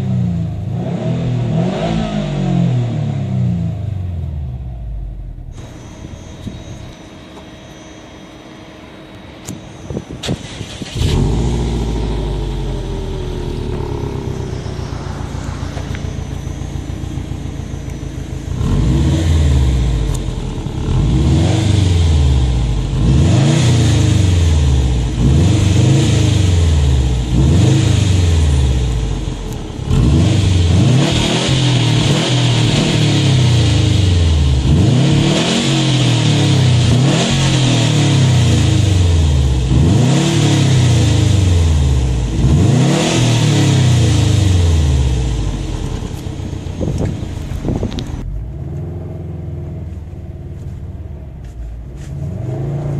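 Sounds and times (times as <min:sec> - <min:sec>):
engine revving: 0:00.0 - 0:07.0, 0:10.2 - 0:50.0, 0:52.0 - 0:52.9
car engine starting and idling: 0:00.0 - 0:52.9.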